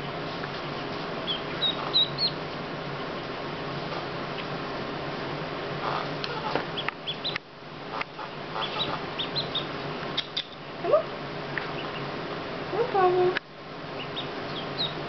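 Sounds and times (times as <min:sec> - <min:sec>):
duckling peeping: 0:00.0 - 0:04.7, 0:05.7 - 0:12.2, 0:13.9 - 0:15.0.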